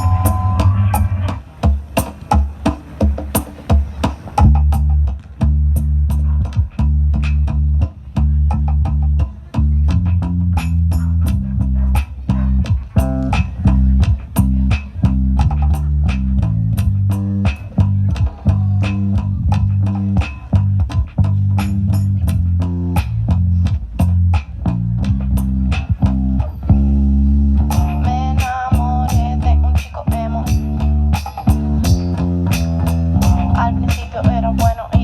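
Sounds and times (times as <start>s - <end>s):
guitar: 0.0s - 1.4s, 6.1s - 35.0s
bass guitar line: 0.0s - 1.8s, 4.4s - 35.0s.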